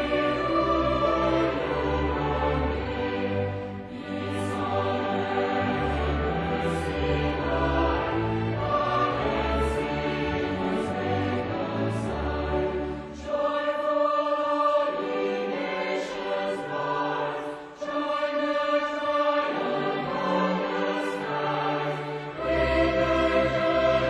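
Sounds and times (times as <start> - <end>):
choir singing: 0.0 - 24.0
string orchestra: 0.0 - 24.0.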